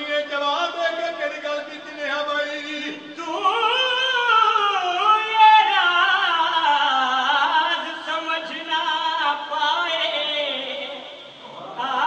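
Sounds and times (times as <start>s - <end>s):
man singing through a microphone: 0.0s - 12.0s.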